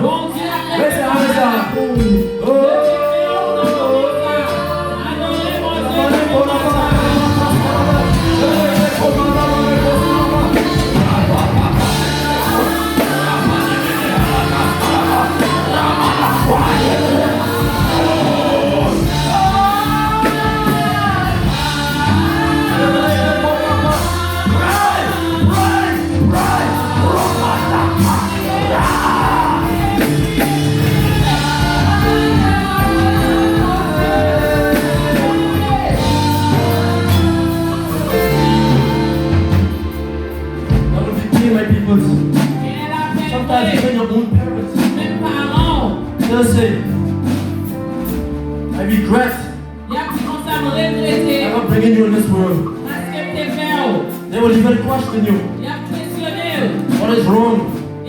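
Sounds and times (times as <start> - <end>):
bass line: 0.0 - 52.8
keyboard chords: 0.0 - 58.0
voices singing: 0.0 - 58.0.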